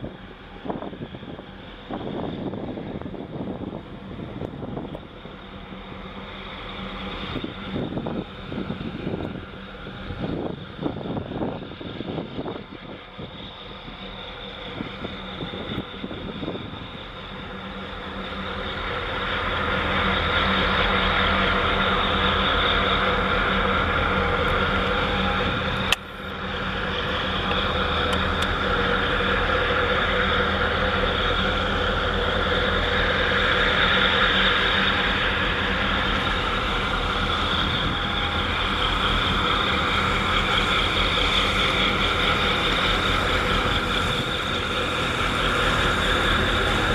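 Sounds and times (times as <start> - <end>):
ship diesel engines humming: 0.0 - 46.9.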